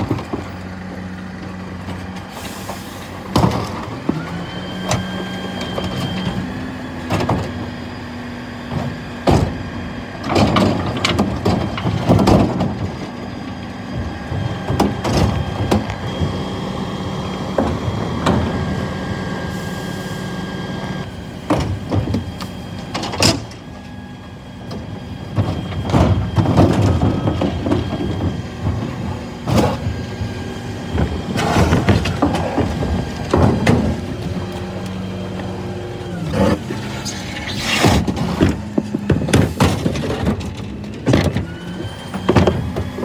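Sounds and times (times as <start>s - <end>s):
hydraulic bin lift: 0.0s - 43.0s
refuse truck engine running: 0.0s - 43.0s.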